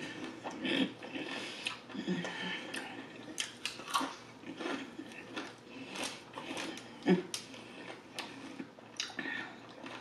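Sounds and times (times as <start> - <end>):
chewing crispy chicken: 0.0 - 10.0.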